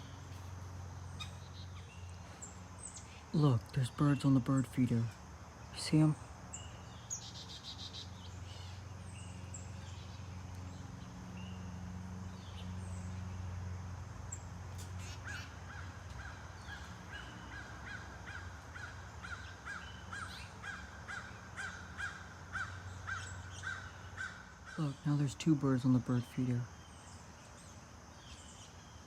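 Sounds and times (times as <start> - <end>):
bird calling: 1.0 - 10.4, 14.8 - 29.0.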